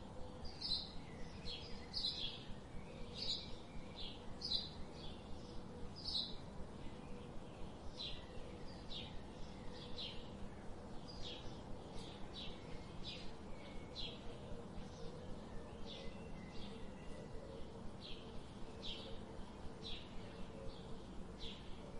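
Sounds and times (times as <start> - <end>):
steady background hiss: 0.0 - 21.9.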